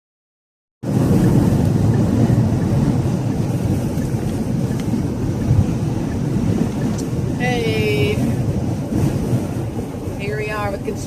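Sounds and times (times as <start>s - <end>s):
car road and wind noise: 0.8s - 11.0s.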